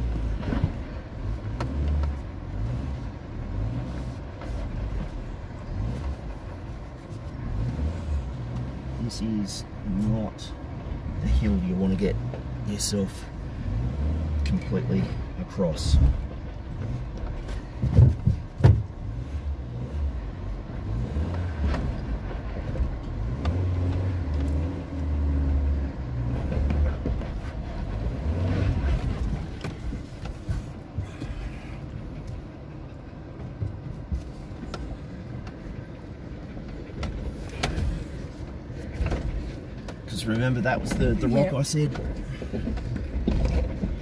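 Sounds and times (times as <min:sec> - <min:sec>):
car engine running low: 0:00.0 - 0:44.0.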